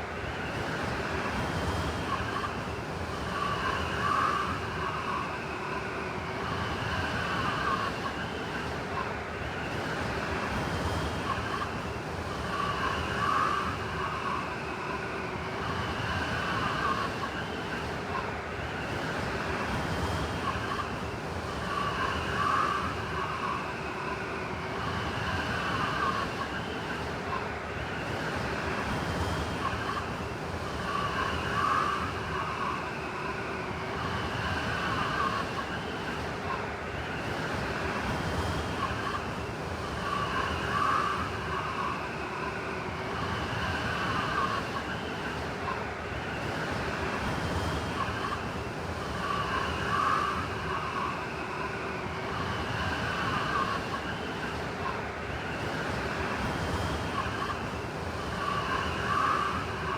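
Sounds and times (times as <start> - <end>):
blizzard wind howling: 0.0 - 59.9.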